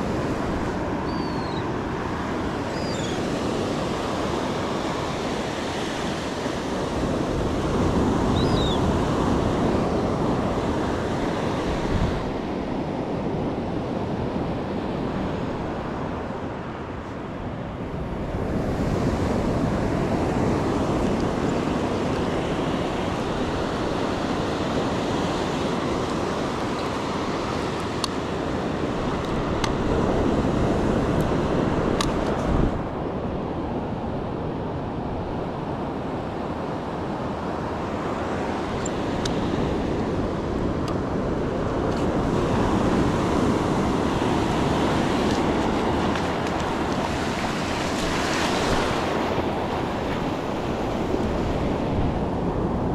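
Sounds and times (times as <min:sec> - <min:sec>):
ocean surf breaking: 0:00.0 - 0:52.9
wind buffeting microphone: 0:00.0 - 0:52.9.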